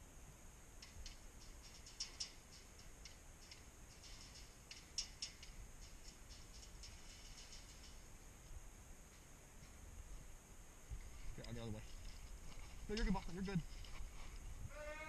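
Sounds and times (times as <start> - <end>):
faint clicking and rattling: 0.7 - 9.9, 11.0 - 14.5.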